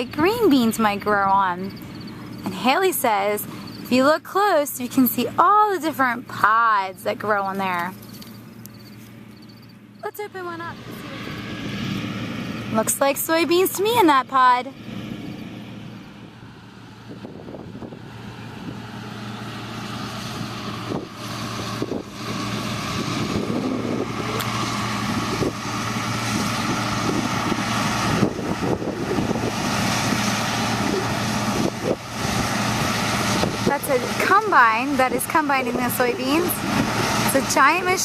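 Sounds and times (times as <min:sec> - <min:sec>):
combine harvester engine hum: 0:00.0 - 0:38.0
rushing noise of harvester: 0:00.0 - 0:38.0.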